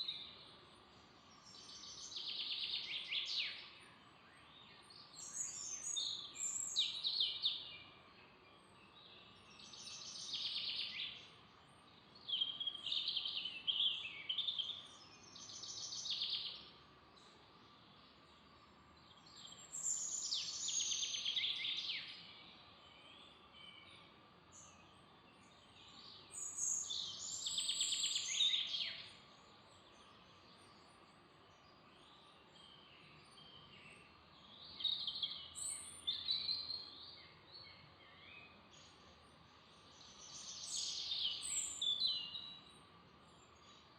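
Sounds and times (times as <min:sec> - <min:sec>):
faint background hiss: 0:00.0 - 0:43.9
faint bird chirps: 0:00.0 - 0:43.9
songbird singing: 0:00.0 - 0:43.9.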